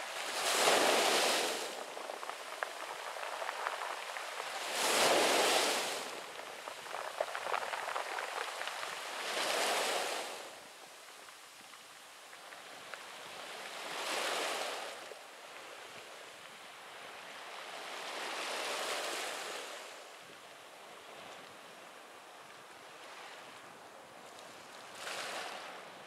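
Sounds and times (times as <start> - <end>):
waves breaking on pebble beach: 0.0 - 20.2, 22.7 - 26.0.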